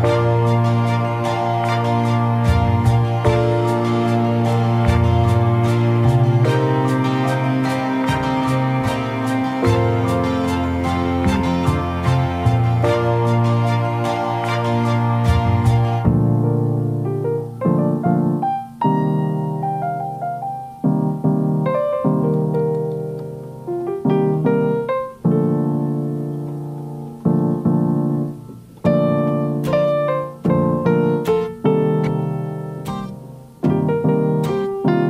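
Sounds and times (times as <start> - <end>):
slow solo piano melody: 0.0 - 35.0.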